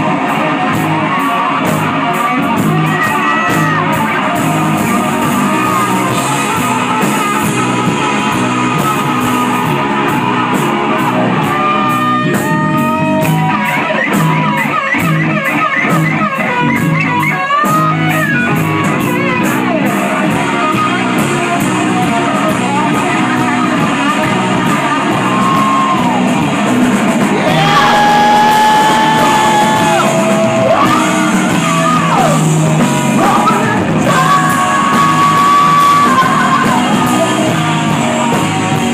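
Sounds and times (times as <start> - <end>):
bass: 0.0 - 38.9
distorted electric guitar lead: 0.0 - 38.9
drums: 0.0 - 38.9.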